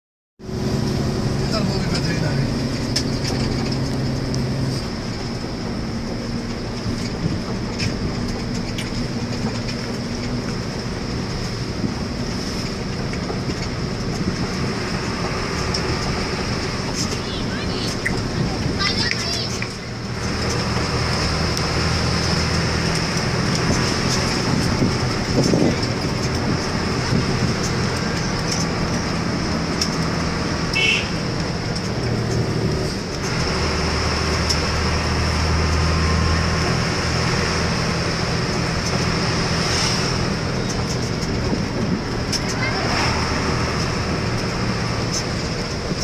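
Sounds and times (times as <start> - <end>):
engine drone: 0.4 - 46.0
tyre and road noise: 0.4 - 46.0.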